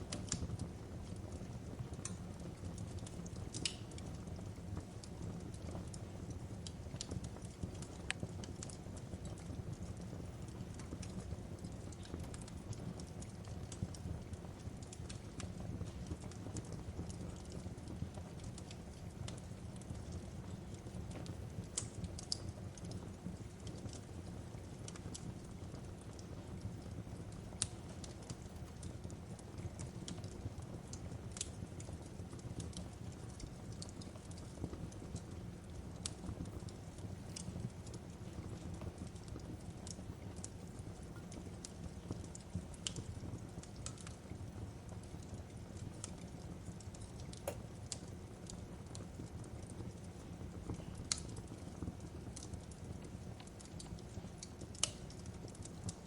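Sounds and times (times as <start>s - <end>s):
fire pops and snaps: 0.0s - 56.0s
low rumble of flames: 0.0s - 56.0s.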